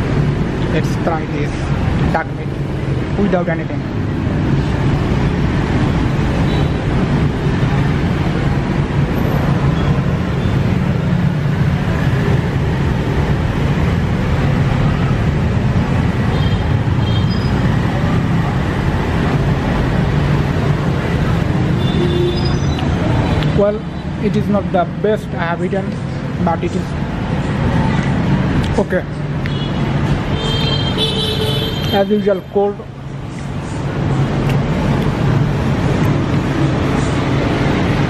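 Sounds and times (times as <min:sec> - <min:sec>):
loud background rumble: 0:00.0 - 0:38.0.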